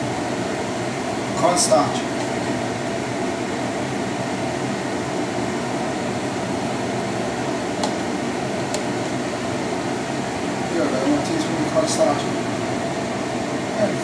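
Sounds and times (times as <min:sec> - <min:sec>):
fan whirring: 0:00.0 - 0:14.0.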